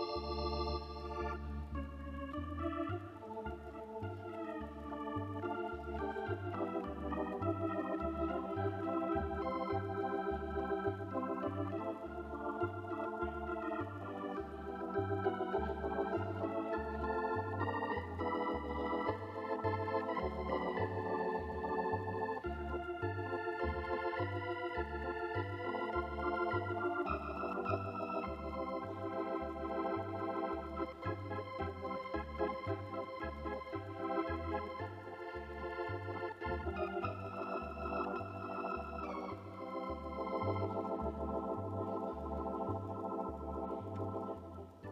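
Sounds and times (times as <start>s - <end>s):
organ music with pulsing bass: 0.0s - 44.9s.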